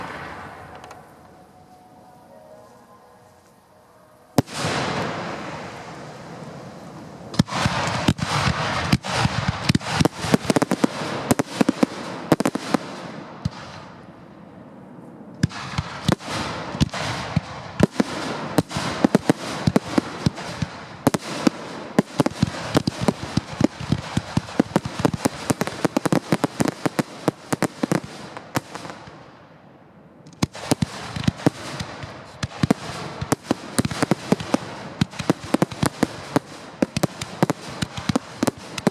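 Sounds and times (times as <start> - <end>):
fireworks bangs and crackle: 0.0 - 1.9, 4.3 - 14.4, 15.4 - 29.6, 30.2 - 38.9.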